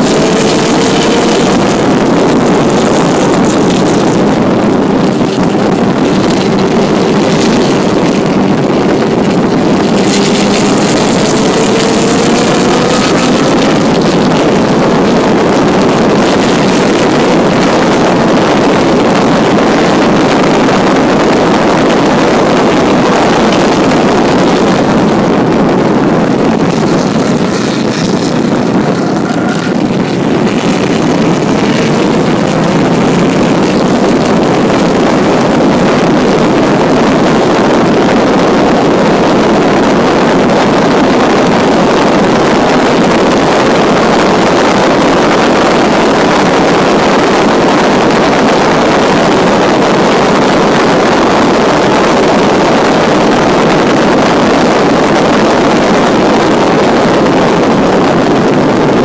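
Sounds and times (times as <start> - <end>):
car engine accelerating: 0.0 - 59.0
wind rush on microphone: 0.0 - 59.0.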